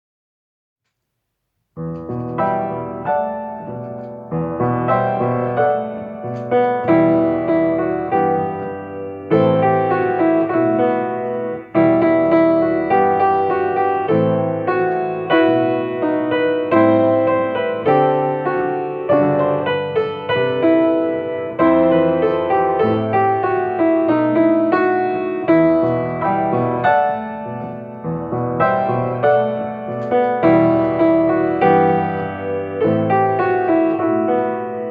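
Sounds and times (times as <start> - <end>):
slow gentle solo piano: 1.8 - 34.9.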